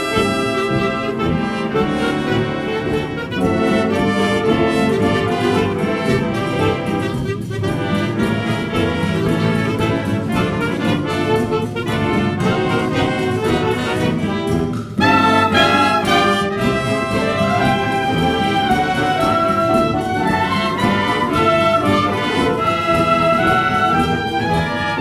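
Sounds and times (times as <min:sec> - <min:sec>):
trumpets and trombones: 0:00.0 - 0:25.0
wind band playing: 0:00.0 - 0:25.0.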